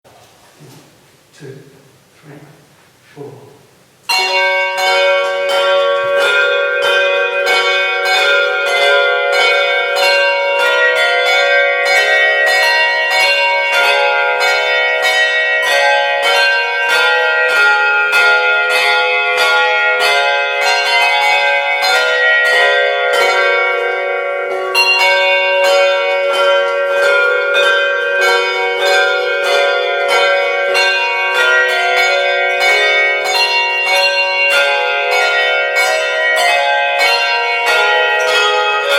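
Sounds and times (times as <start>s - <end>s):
handbells ringing in chords: 4.1s - 38.9s.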